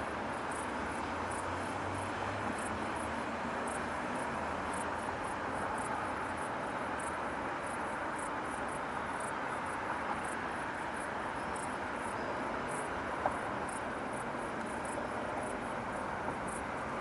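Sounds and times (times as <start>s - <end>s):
distant city traffic hum: 0.0s - 17.0s
insects chirping: 0.2s - 17.0s.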